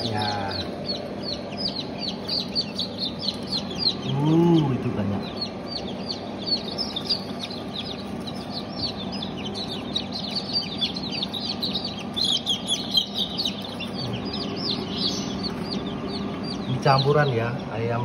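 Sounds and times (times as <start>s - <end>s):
chicks peeping: 0.0s - 18.0s
steady low hum: 0.0s - 18.0s.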